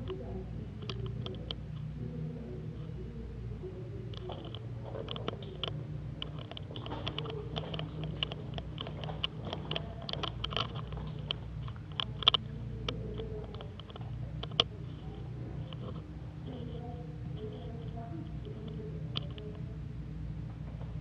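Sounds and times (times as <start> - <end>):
light clicks and taps: 0.0 - 1.9, 4.0 - 19.7
steady low hum: 0.0 - 21.0.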